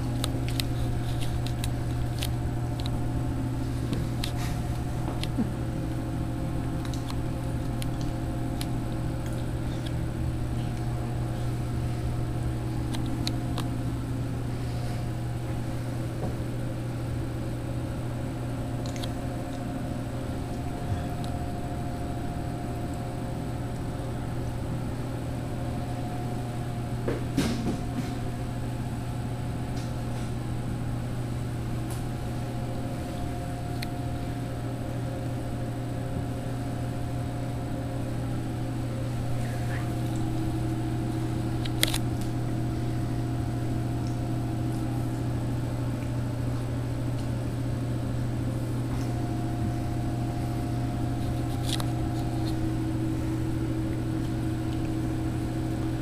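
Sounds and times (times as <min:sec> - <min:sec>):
vending machines humming: 0:00.0 - 0:56.0.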